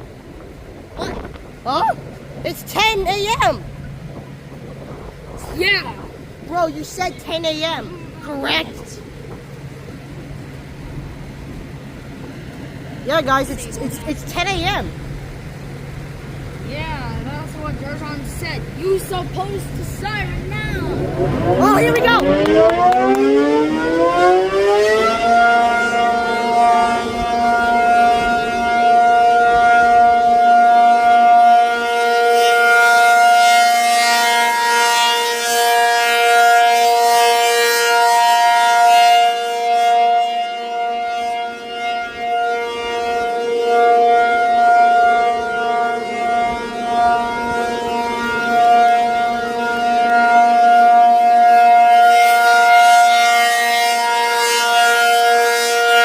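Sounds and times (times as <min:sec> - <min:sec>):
warning siren: 0:03.2 - 0:56.0.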